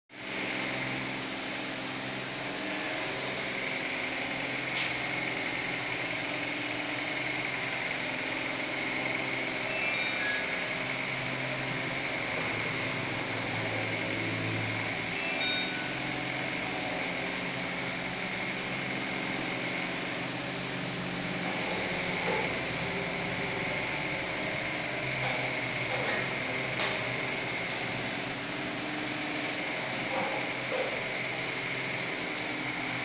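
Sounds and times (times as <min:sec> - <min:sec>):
mechanical hum with airy hiss: 0:00.2 - 0:33.0.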